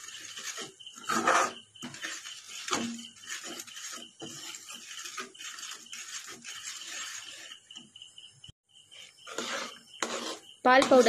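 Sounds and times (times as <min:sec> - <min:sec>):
spoon scraping a pan: 0:00.0 - 0:08.1, 0:08.9 - 0:11.0.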